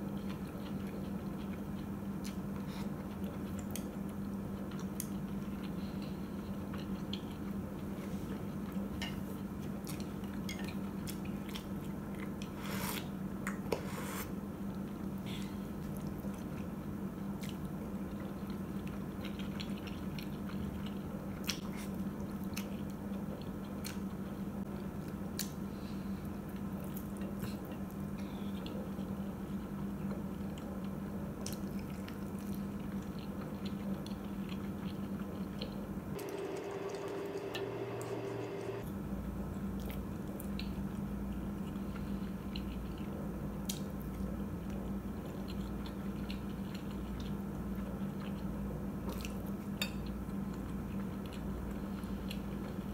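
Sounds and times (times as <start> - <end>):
close-miked chewing: 0.0 - 13.8, 14.6 - 52.9
steady low hum: 0.0 - 52.9.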